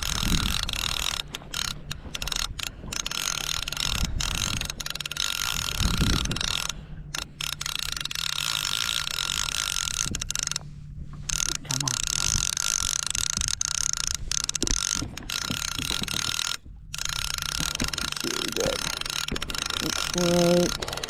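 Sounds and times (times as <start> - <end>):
fishing reel ratcheting whirr: 0.0 - 21.0.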